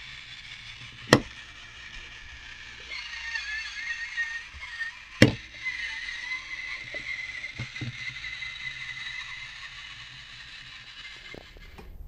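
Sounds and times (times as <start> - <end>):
toy robot motor whining: 0.0 - 12.0.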